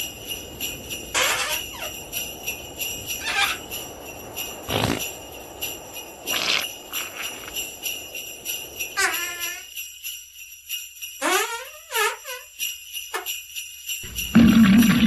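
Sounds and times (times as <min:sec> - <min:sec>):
sleigh bells shaking: 0:00.0 - 0:15.0.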